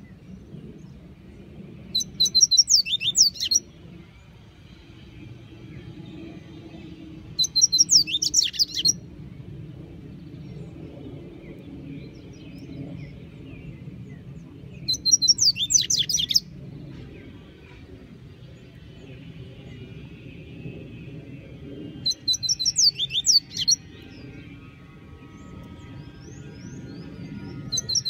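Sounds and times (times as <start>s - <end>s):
bird singing high sweeping notes: 1.7s - 28.0s.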